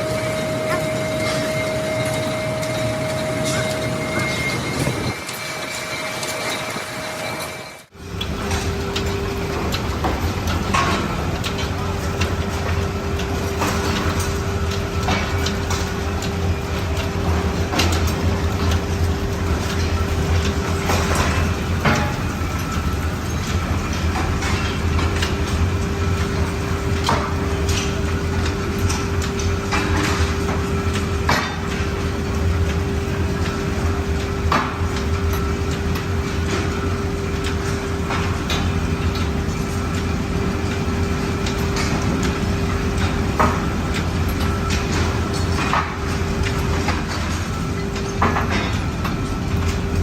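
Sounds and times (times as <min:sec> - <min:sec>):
factory machinery hum: 0:00.0 - 0:50.0.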